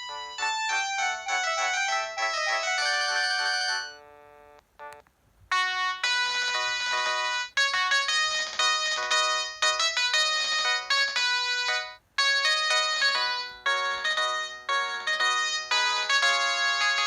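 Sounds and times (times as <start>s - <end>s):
electronic ringtone melody: 0.0s - 17.0s
quick ringtone melody: 0.0s - 17.0s.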